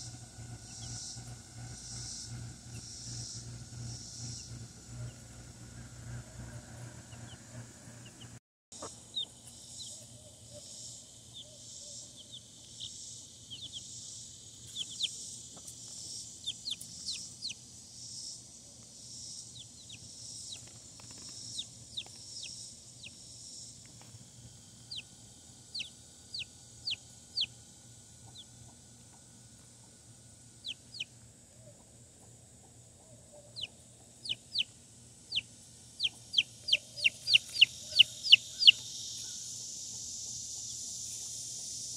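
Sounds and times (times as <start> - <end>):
chicks peeping: 0.0 - 18.0, 19.4 - 23.2, 24.7 - 41.9
faint high pulsing buzz: 0.0 - 41.9.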